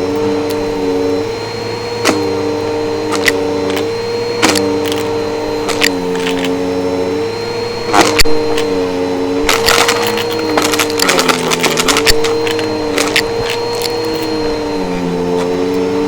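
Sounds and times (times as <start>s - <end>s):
debris crackling in vacuum: 0.0s - 16.0s
vacuum cleaner motor whine: 0.0s - 16.0s.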